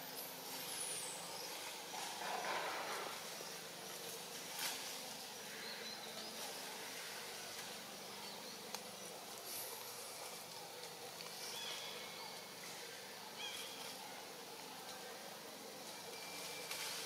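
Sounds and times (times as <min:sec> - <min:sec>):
insect hiss: 0:00.0 - 0:17.0.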